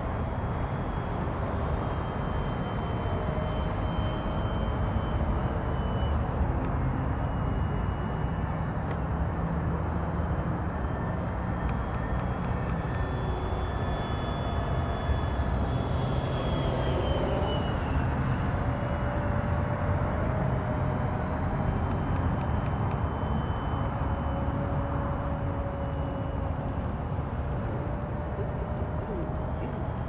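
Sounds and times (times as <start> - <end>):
model jet fan whining overhead: 0.0 - 30.0.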